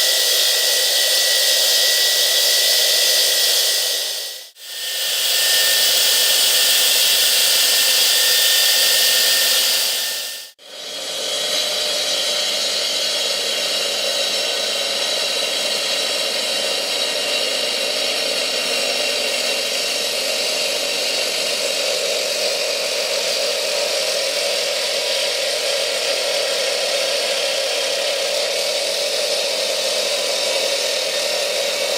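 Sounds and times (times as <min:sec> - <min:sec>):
electric concrete saw running: 0:00.0 - 0:31.9.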